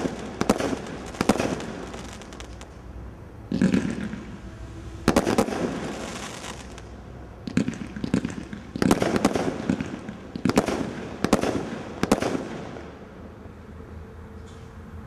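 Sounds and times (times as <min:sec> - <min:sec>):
fireworks cracking and bursting: 0:00.0 - 0:02.8, 0:03.5 - 0:13.0.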